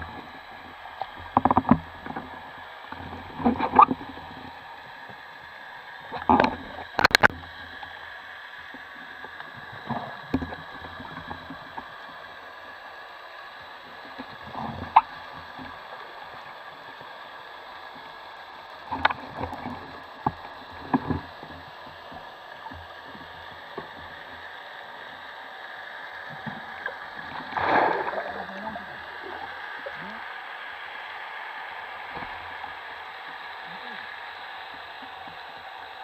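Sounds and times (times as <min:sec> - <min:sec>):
gurgling water rush: 0:00.0 - 0:36.0
underwater hiss: 0:00.0 - 0:36.0.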